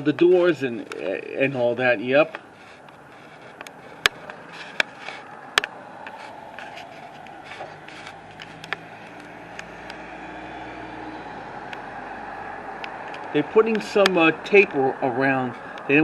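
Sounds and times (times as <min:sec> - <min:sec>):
faint engine hum: 0:00.0 - 0:16.0
street traffic: 0:00.0 - 0:16.0.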